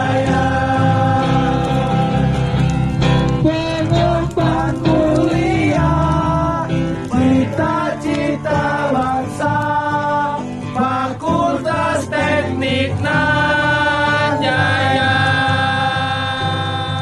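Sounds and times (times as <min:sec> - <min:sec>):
voices singing over instruments: 0:00.0 - 0:17.0.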